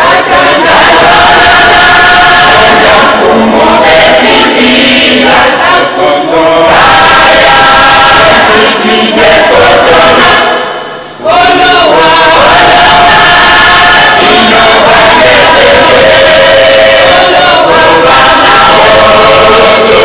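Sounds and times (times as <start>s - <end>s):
church choir singing: 0.0s - 20.0s.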